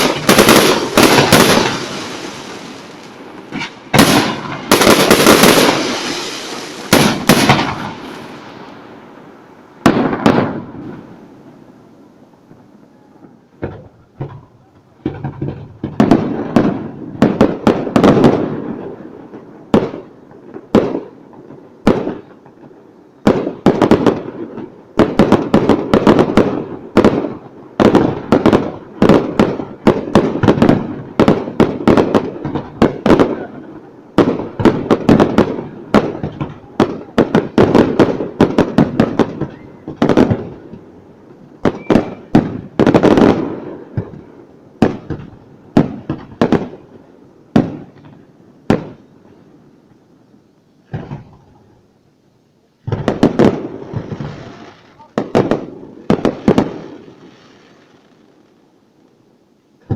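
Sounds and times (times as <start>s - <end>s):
fireworks bangs and crackles: 0.0s - 52.0s, 52.7s - 59.9s.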